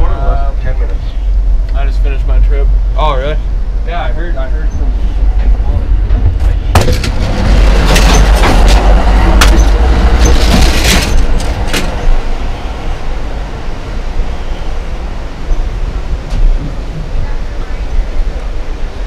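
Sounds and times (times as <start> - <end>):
train rumbling and rattling: 0.0 - 19.0.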